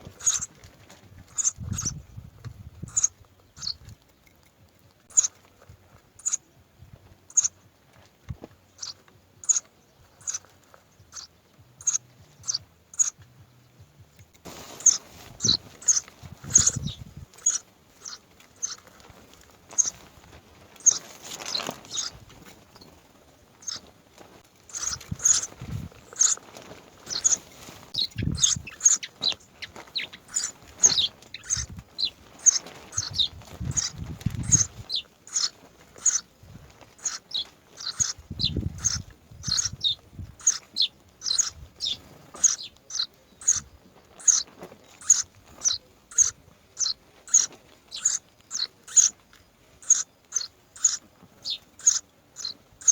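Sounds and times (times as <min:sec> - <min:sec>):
nestling birds chirping: 0:00.0 - 0:52.9.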